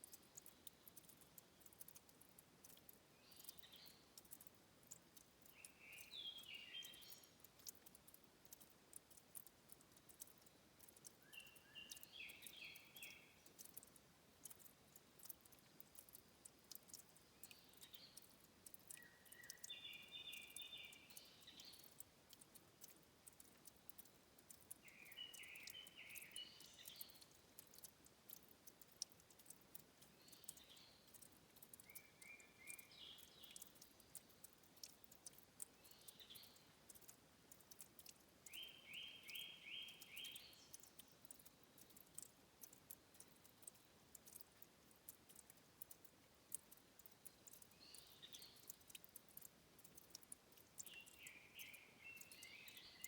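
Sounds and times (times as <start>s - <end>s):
water trickling: 0.0s - 53.0s.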